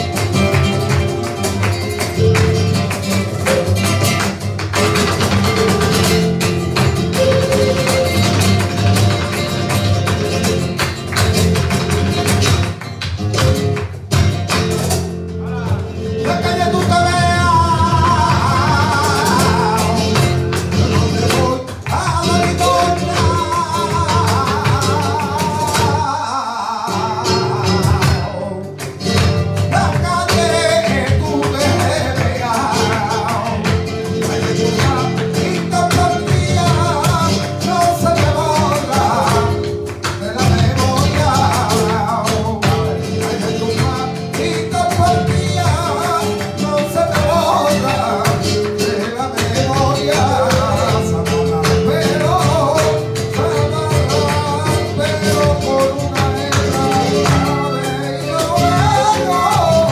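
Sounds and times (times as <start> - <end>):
rapid dance footwork taps: 0.0 - 26.0, 27.6 - 59.9
acoustic guitars playing: 0.0 - 59.9.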